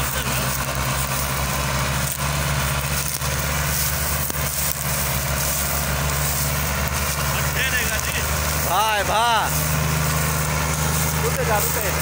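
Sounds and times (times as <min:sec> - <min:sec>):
tractor diesel engines droning: 0:00.0 - 0:12.0.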